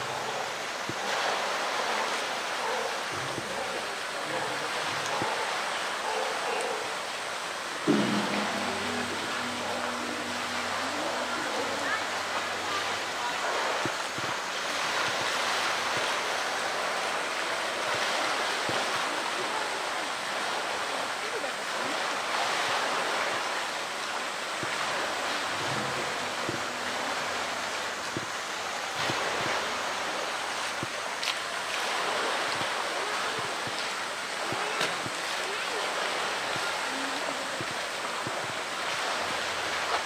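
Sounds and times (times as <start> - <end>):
steady rush of water: 0.0 - 40.0
water splashing and sloshing: 0.0 - 40.0.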